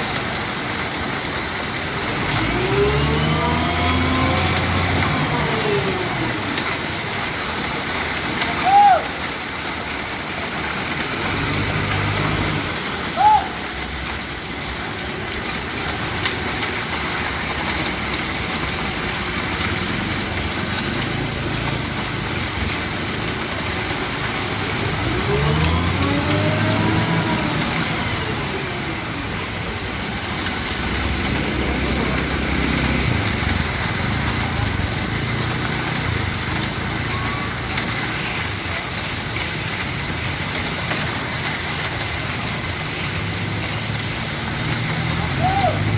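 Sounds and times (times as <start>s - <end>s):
diesel engine revving: 0.1s - 8.4s, 10.4s - 13.1s, 13.8s - 45.9s.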